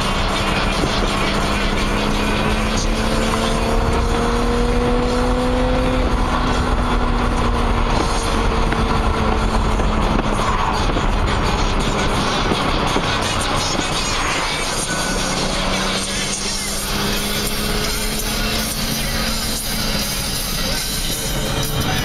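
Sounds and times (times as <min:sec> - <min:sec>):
car engine drone: 0:00.0 - 0:22.0
road and wind noise: 0:00.0 - 0:22.0.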